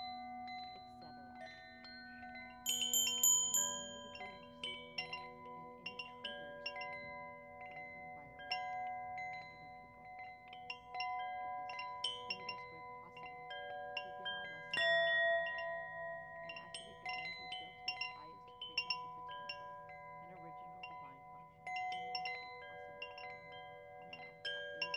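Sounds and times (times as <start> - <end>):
metal chimes ringing: 0.0 - 24.9.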